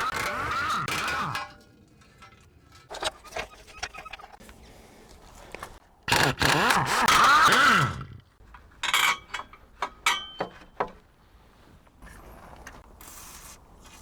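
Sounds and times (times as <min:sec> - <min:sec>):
clinks and scrapes: 0:00.0 - 0:05.8, 0:08.4 - 0:14.0.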